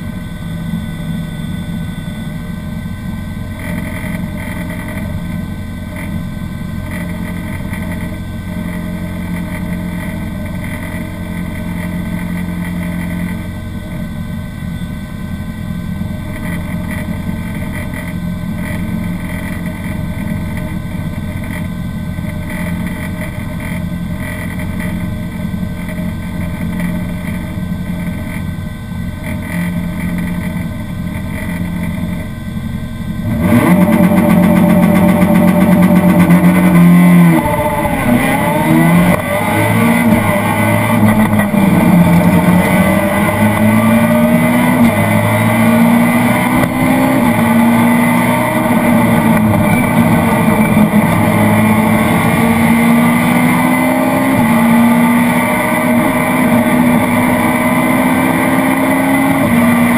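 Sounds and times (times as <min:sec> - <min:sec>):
car engine revving: 0:02.7 - 0:14.4, 0:15.4 - 0:59.9.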